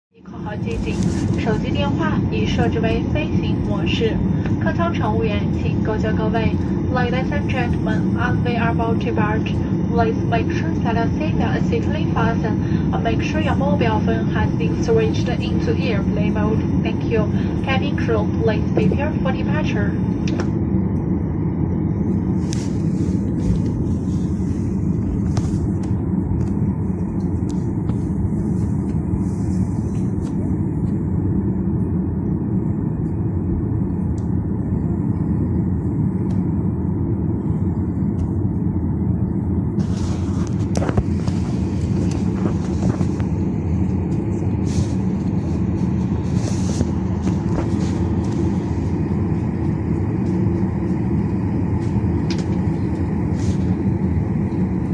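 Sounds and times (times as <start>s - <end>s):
airliner cabin rumble: 0.1s - 54.9s.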